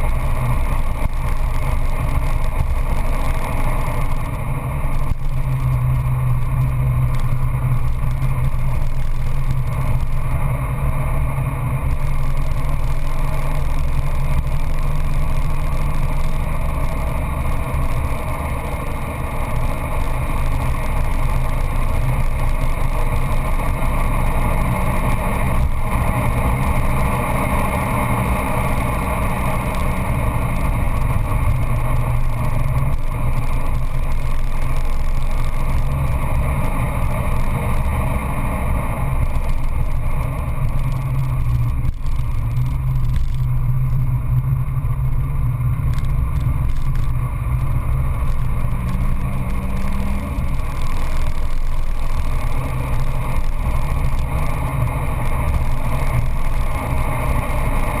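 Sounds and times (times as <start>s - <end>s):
car engine pulling hard: 0.0s - 58.0s
tyre and wind noise: 0.0s - 58.0s.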